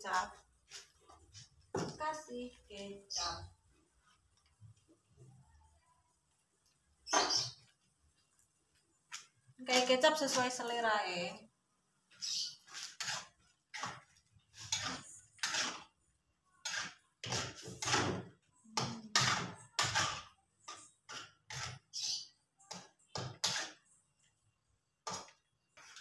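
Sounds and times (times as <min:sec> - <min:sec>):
spatula scraping in frying pan: 0:00.0 - 0:05.8, 0:06.6 - 0:10.7, 0:12.1 - 0:24.3, 0:24.9 - 0:26.0.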